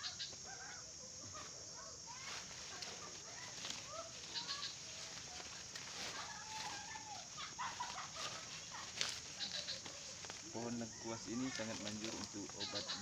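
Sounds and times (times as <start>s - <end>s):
chickens clucking: 0.0s - 13.0s
stems clicking and rustling: 2.1s - 13.0s.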